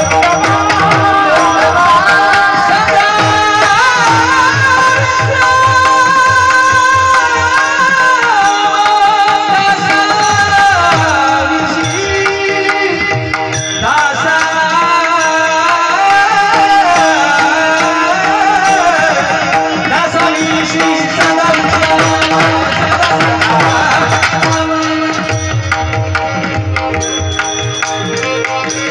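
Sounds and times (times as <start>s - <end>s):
man singing devotional song: 0.0s - 28.9s
tabla: 0.0s - 28.9s.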